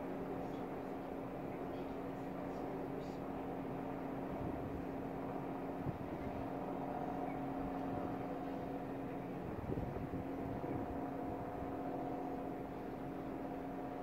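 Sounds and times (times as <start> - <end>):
ship engine humming: 0.0 - 14.0.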